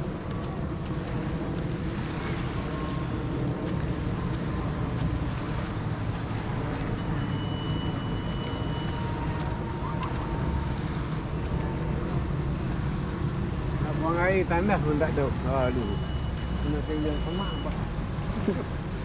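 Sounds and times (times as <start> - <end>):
motorboat engine rumbling: 0.0 - 19.0
rushing water: 0.0 - 19.0
wind: 0.0 - 19.0.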